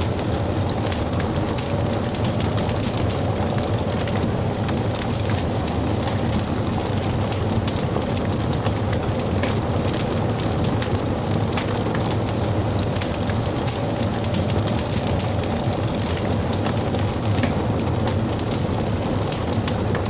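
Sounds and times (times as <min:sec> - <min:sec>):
burning wood crackling and popping: 0:00.0 - 0:20.0
wood fire rumbling: 0:00.0 - 0:20.0.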